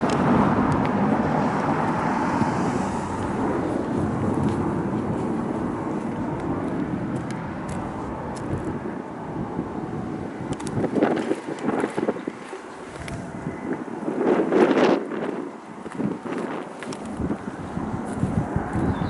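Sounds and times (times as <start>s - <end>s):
road vehicle noise: 0.0s - 19.0s.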